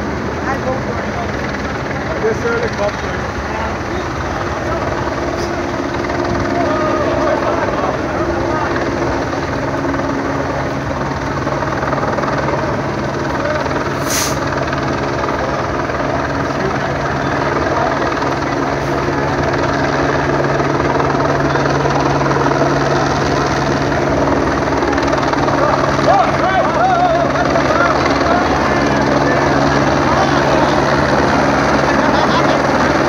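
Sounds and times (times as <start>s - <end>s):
helicopter rotor drone: 0.0s - 33.0s.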